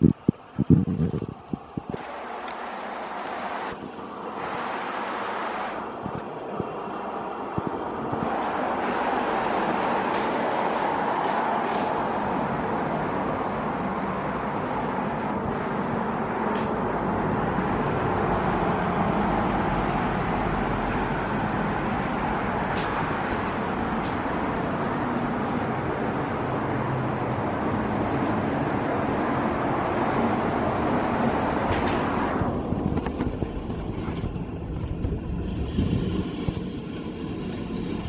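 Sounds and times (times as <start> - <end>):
road traffic rushing past: 0.0 - 38.0.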